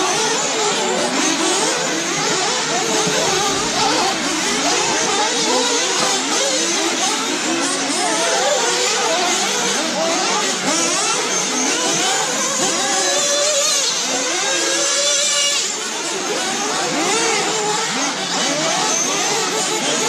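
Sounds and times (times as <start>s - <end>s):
radio-controlled cars whining: 0.0s - 20.0s.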